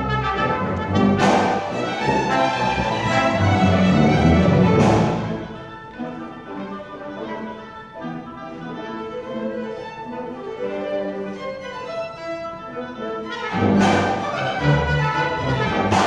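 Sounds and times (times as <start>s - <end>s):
symphony orchestra playing: 0.0s - 16.0s.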